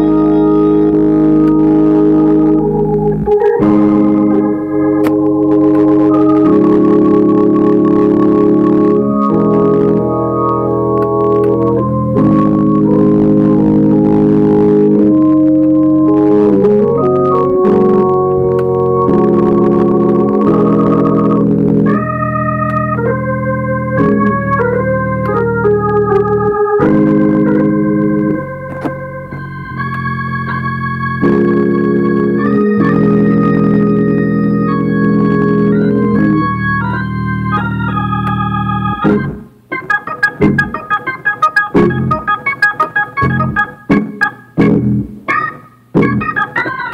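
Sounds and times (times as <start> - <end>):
church organ playing chords: 0.0 - 46.9.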